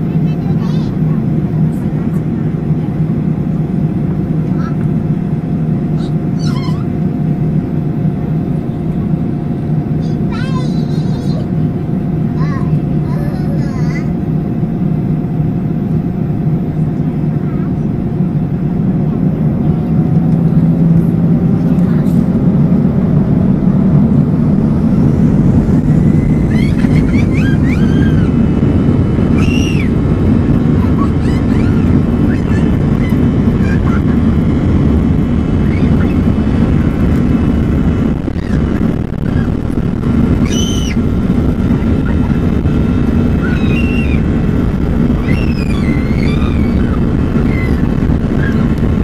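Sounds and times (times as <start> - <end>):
jet engine cabin rumble: 0.0 - 49.0.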